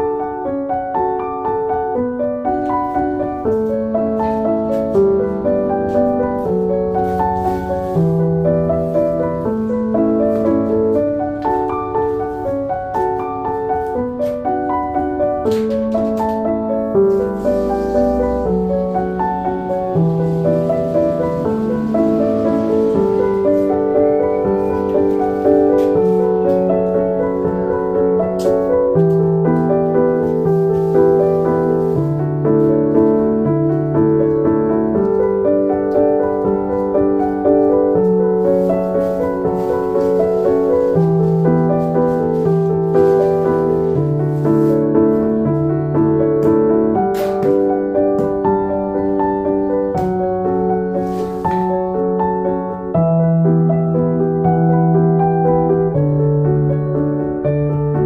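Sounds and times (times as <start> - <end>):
piano melody: 0.0 - 58.0.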